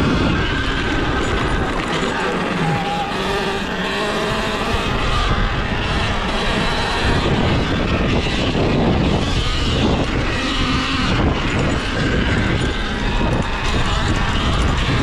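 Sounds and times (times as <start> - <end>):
electric dirt bike riding noise: 0.0 - 15.0.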